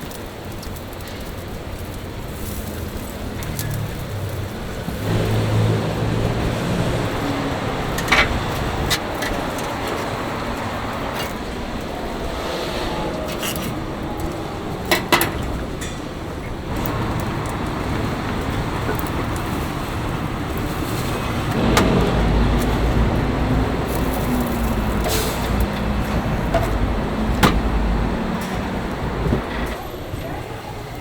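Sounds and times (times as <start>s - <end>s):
bus engine rumble: 0.0s - 31.0s
street traffic: 0.0s - 31.0s.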